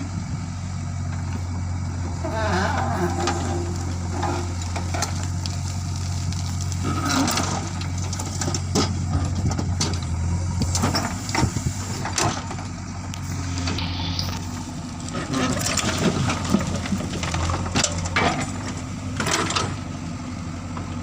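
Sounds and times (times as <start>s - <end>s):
diesel engine running: 0.0s - 21.0s
knocks and clatter of gravel: 2.1s - 19.9s.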